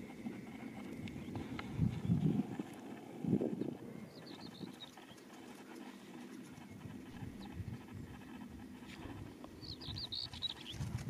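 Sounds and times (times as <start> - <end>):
small bird twittering: 0.0 - 8.4, 9.5 - 11.0
low wind rumble on microphone: 0.0 - 11.0.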